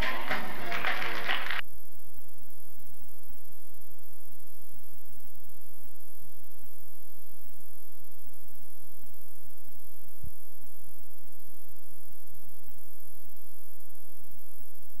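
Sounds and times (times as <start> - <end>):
electrical hum: 0.0 - 15.0
faint steady tones: 0.0 - 15.0.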